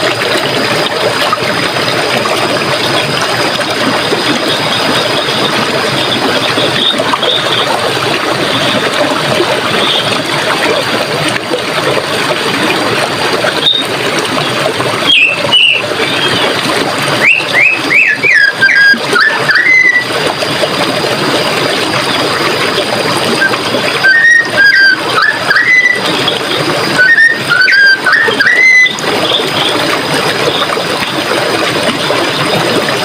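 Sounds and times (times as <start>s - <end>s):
running water: 0.0s - 33.0s.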